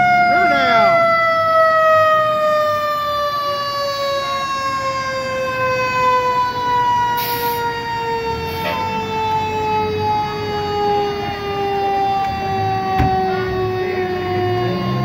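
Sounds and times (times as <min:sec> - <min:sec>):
fire truck siren winding down: 0:00.0 - 0:15.0.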